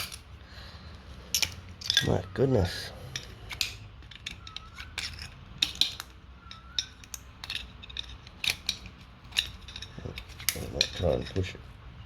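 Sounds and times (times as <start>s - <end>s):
metal tool clinking and scraping: 0.0s - 0.3s, 1.2s - 11.7s.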